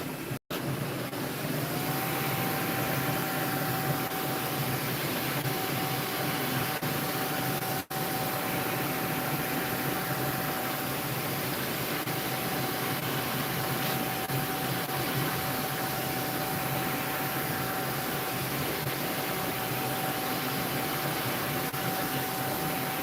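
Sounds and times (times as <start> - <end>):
mechanical whirring hum with whine: 0.0 - 23.0.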